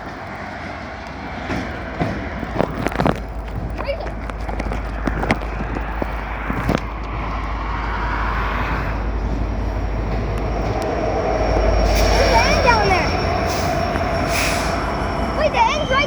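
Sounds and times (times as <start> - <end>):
freight train cars rolling: 0.0 - 16.0.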